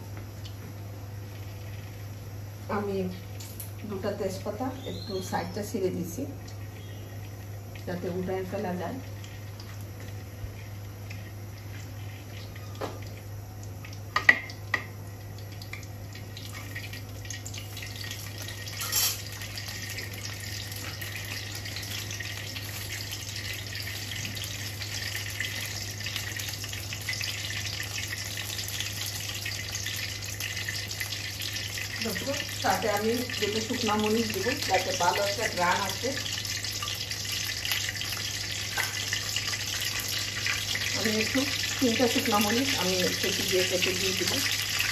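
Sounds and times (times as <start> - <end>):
oil sizzling in pan: 0.0 - 44.9.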